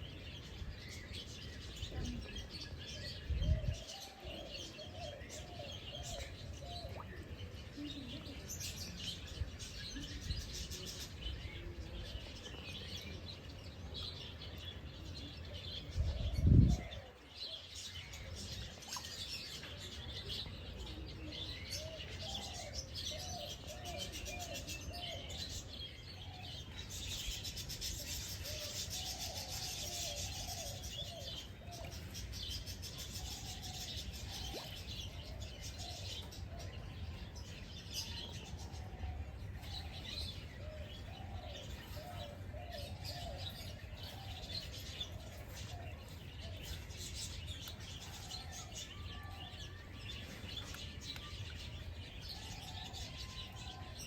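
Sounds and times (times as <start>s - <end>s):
birds chirping and twittering: 0.0s - 54.0s.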